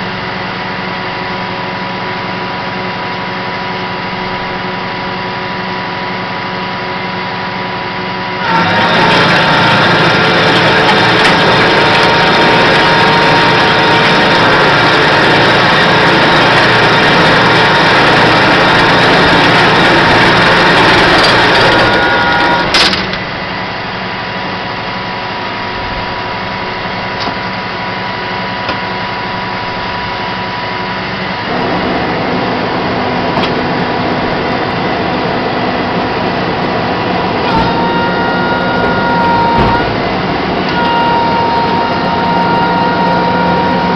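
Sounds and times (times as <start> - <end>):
tow truck engine and hydraulics: 0.0 - 43.9.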